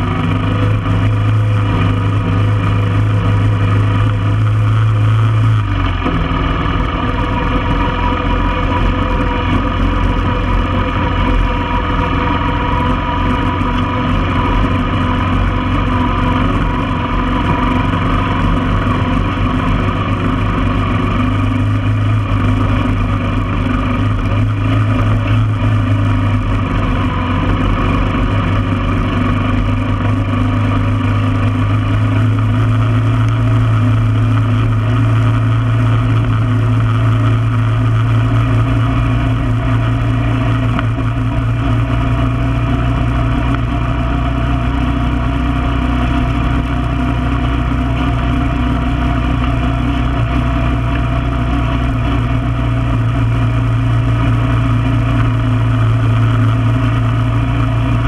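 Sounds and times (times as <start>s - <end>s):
atv engine running steadily: 0.0s - 58.0s.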